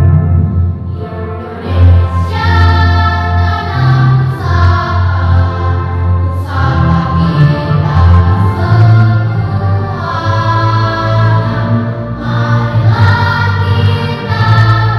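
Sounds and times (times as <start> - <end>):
children's choir singing: 0.0 - 14.9.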